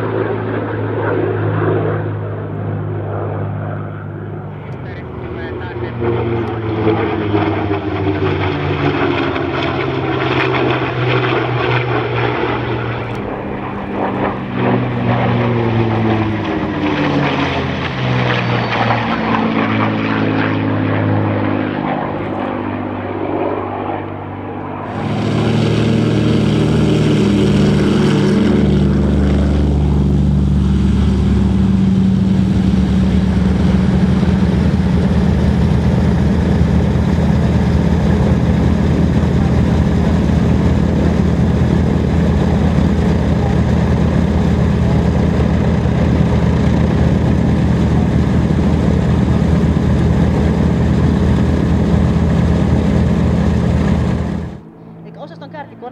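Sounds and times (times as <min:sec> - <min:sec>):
propeller plane engine droning flyby: 0:00.0 - 0:55.9
twin radial engines running: 0:00.0 - 0:55.9.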